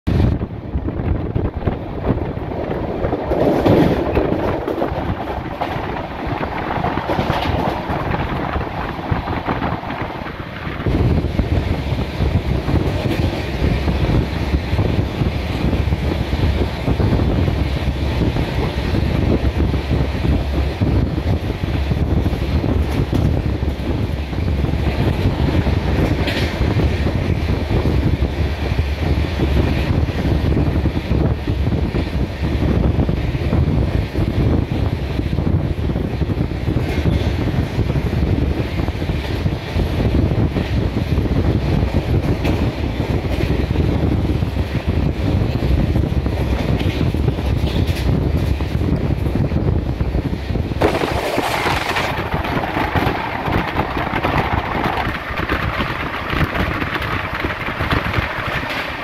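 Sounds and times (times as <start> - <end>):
train wheels on rails: 0.1 - 59.0.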